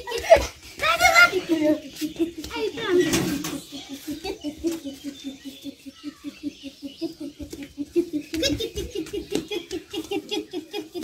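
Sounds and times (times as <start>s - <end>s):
girls laughing and giggling: 0.0s - 11.0s.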